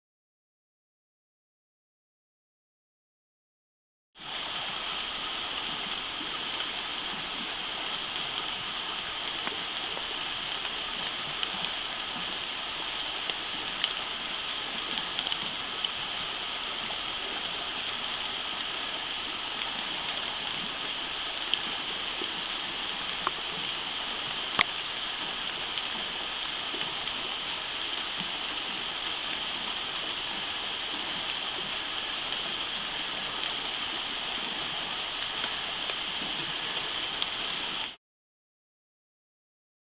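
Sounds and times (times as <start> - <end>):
insect chorus buzzing: 4.4 - 37.8.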